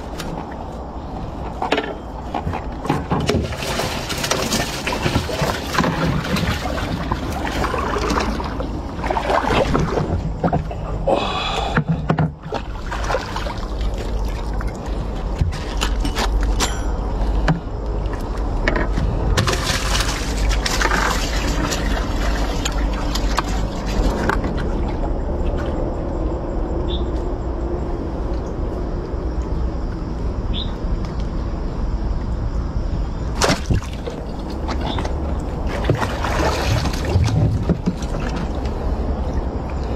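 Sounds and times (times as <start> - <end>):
water splashing and gurgling: 0.0 - 26.8, 33.2 - 39.9
low rumble: 0.0 - 39.9.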